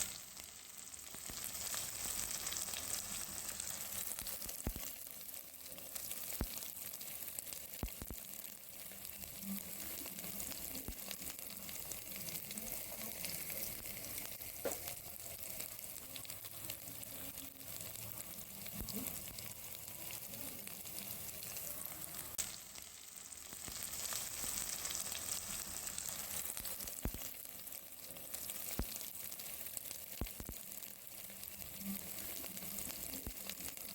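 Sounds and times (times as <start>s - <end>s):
food sizzling in oil: 0.0s - 33.9s.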